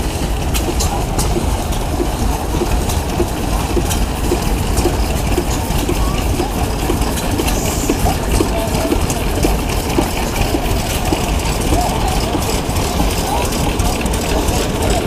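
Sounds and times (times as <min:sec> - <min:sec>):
crowd chatter: 0:00.0 - 0:15.0
stationary engines ticking: 0:00.0 - 0:15.0.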